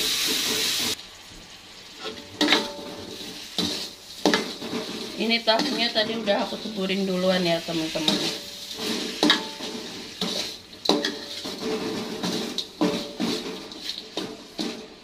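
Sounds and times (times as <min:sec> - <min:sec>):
frying sizzle: 0:00.0 - 0:15.0
metal spatula scraping a wok: 0:02.0 - 0:15.0.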